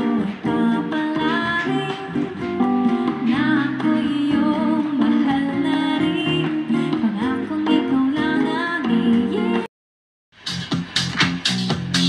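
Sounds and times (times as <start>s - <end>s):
bossa nova song over speakers: 0.0s - 9.7s, 10.4s - 12.0s
person singing: 0.0s - 9.7s
plucked acoustic guitar: 0.0s - 9.7s.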